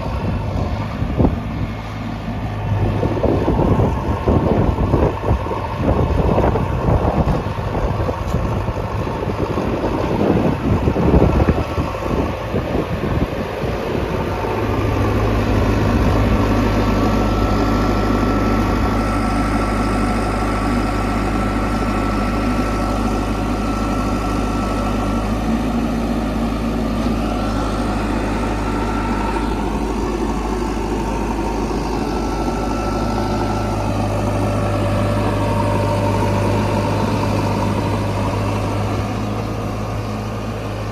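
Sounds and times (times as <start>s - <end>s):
diesel engine rumbling: 0.0s - 40.9s.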